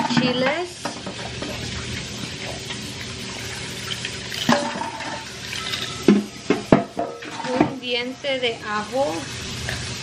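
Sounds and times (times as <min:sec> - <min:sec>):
fish frying in hot oil: 0:00.5 - 0:07.0, 0:07.9 - 0:10.0.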